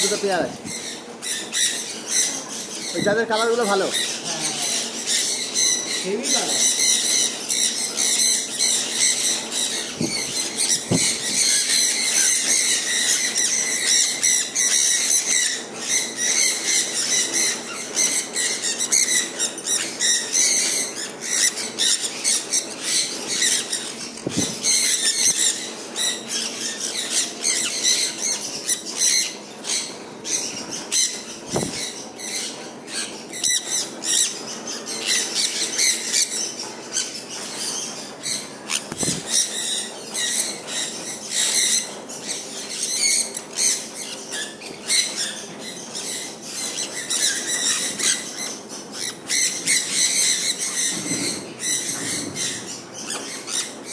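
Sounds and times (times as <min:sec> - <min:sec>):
parrots screeching and chattering: 0:00.0 - 0:53.9.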